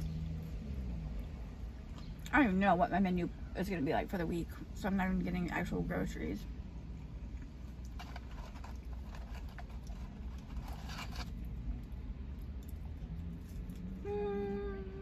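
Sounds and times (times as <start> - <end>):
low rumble inside car: 0.0 - 15.0.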